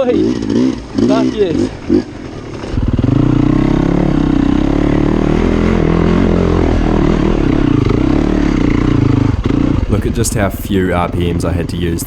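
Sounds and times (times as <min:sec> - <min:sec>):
dirt bike engine at low revs: 0:00.0 - 0:10.0.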